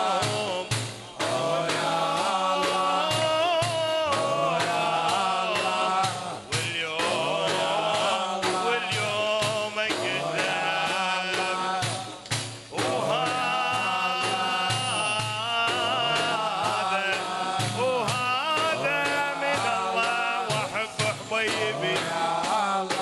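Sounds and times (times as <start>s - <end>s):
claps or hand-drum strokes: 0.0s - 23.0s
steady low beat: 0.0s - 23.0s
voices singing together: 0.0s - 23.0s.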